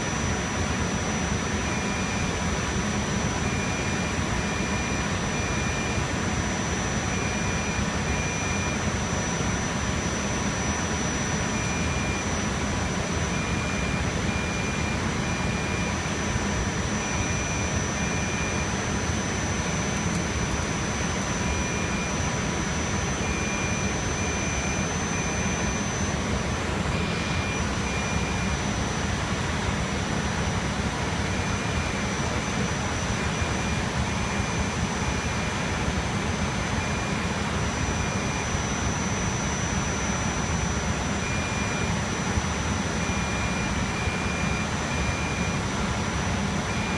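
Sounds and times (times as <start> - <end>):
server cooling fans running: 0.0 - 46.9.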